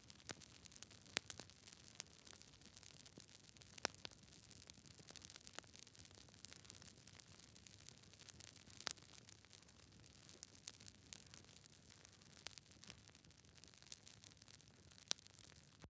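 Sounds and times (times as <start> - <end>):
campfire crackling: 0.0 - 15.9.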